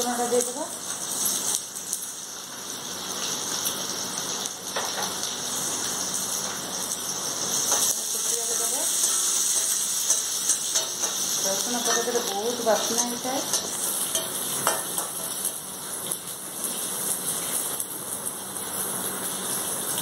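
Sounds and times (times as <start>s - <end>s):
garlic sizzling in hot oil: 0.0s - 20.0s.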